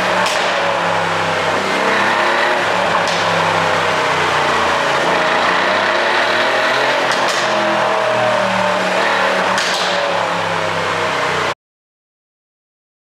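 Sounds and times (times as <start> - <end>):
car exhaust running: 0.0 - 11.5.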